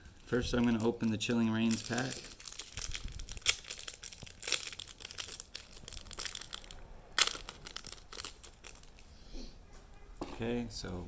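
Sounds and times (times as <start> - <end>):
foil wrapper crinkling: 0.0 - 9.1.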